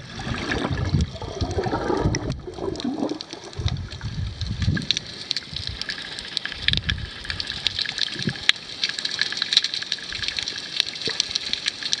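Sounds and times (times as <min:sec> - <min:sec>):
low rumble of rushing water: 0:00.0 - 0:12.0
underwater crackle of clicks: 0:00.6 - 0:12.0.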